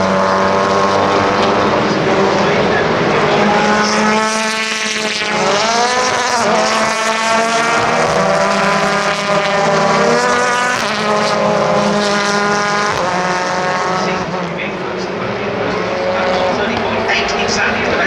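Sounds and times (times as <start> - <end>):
race car engines running hard: 0.0 - 18.0.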